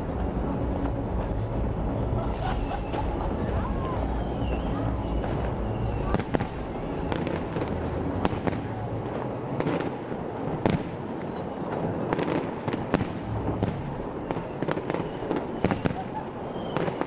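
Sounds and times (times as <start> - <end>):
fireworks bangs and cracks: 0.0 - 17.0
rumble of distant fireworks: 0.0 - 17.0.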